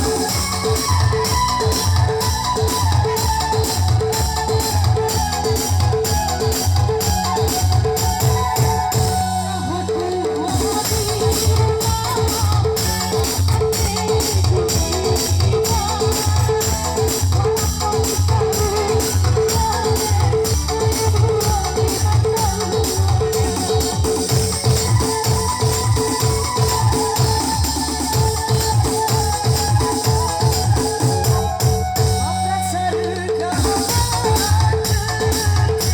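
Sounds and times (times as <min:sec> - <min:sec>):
steady drum beat: 0:00.0 - 0:09.4, 0:10.4 - 0:32.4, 0:33.2 - 0:35.9.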